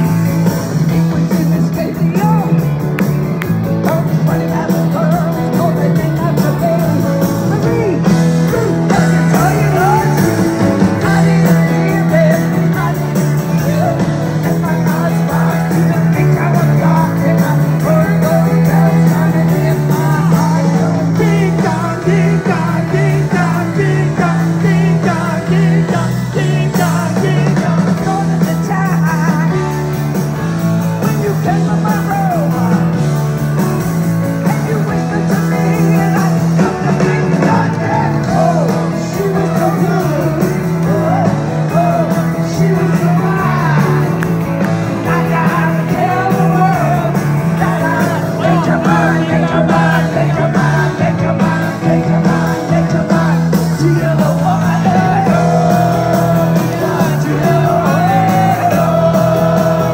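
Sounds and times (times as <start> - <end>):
bass line: 0.0 - 59.9
live rock band playing: 0.0 - 59.9.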